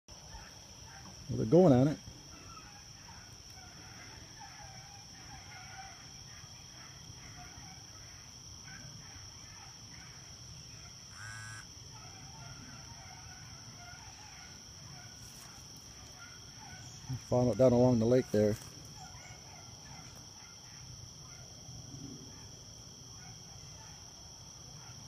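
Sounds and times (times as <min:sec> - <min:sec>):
insects droning: 0:00.1 - 0:25.0
distant dogs baying: 0:00.2 - 0:25.0.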